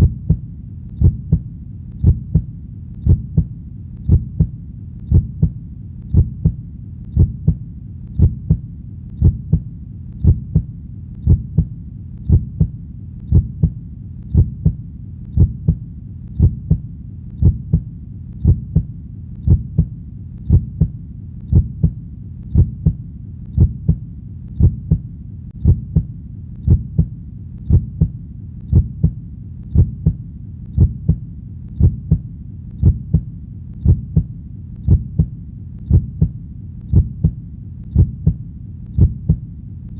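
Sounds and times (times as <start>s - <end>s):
heartbeat thumps: 0.0s - 39.5s
soft low hum: 0.0s - 39.9s.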